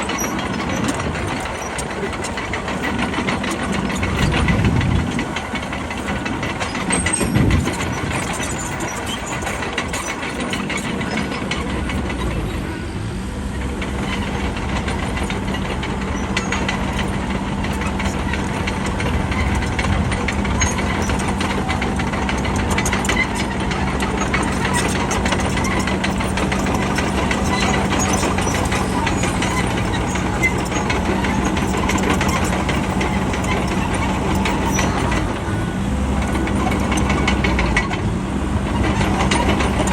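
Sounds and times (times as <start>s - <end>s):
bulldozer diesel engine droning: 0.0s - 39.9s
rattle of clicks: 0.1s - 12.4s, 13.6s - 35.5s, 36.2s - 38.1s, 38.7s - 39.9s.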